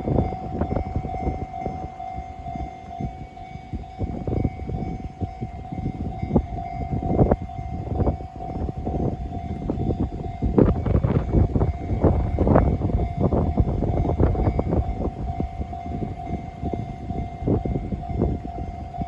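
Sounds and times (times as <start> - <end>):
crossing warning bell: 0.0 - 19.0
train passing: 0.0 - 19.0
wind buffeting microphone: 0.0 - 19.0.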